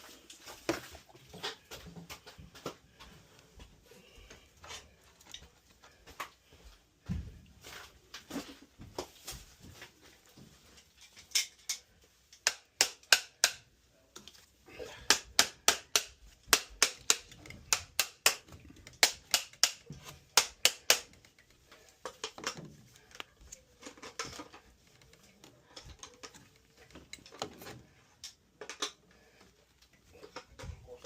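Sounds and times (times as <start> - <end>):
faint knocks and handling: 0.0 - 12.8, 13.4 - 31.0.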